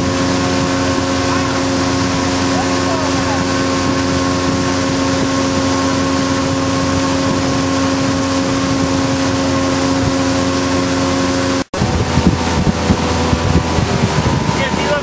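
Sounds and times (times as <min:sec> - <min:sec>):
motorboat engine humming: 0:00.0 - 0:15.0
rush of wind and water: 0:00.0 - 0:15.0
wind buffeting microphone: 0:00.0 - 0:15.0.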